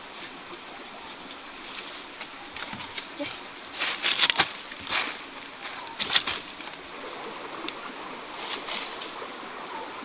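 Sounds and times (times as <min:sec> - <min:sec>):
dry leaves rustling underfoot: 0:00.0 - 0:09.7.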